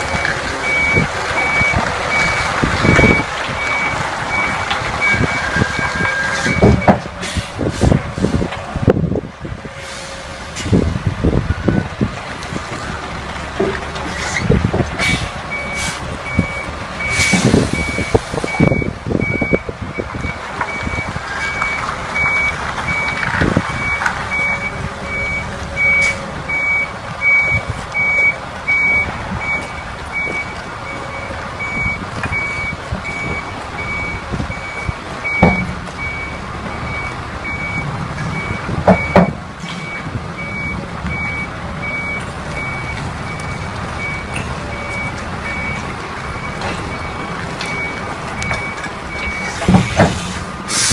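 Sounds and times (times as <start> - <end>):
reversing alarm beeping: 0.0 - 7.0, 15.5 - 50.0
low engine rumble: 0.0 - 50.9.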